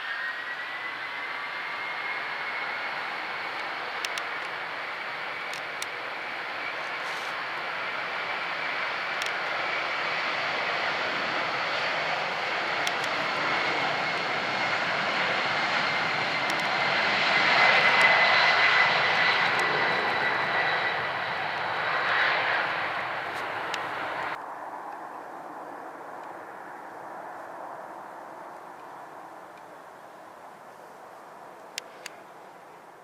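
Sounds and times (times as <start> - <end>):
jet engine roar with whine: 0.0 - 33.0.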